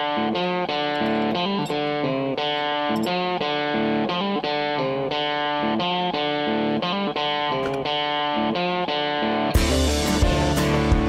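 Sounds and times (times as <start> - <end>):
guitar playing: 0.0 - 11.0.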